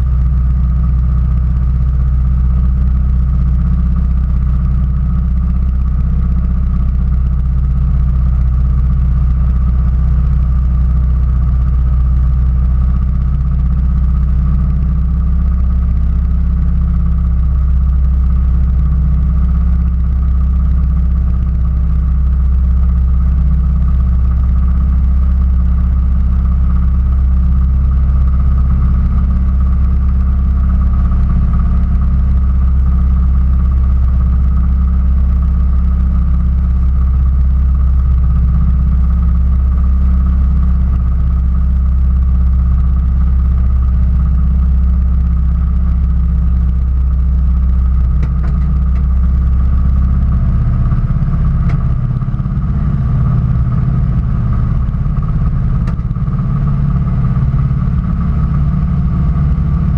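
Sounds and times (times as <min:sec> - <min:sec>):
engine idling low rumble: 0:00.0 - 0:59.9
faint steady whine: 0:00.0 - 0:59.9.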